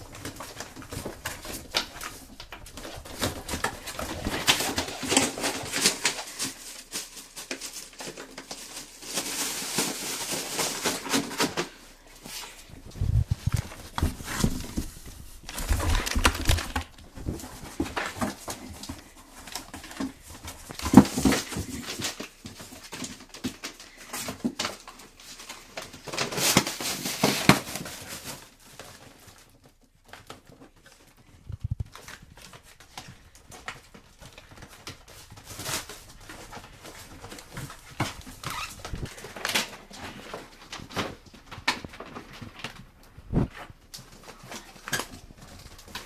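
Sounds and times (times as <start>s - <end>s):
crinkling plastic wrap and paper: 0.0s - 46.0s.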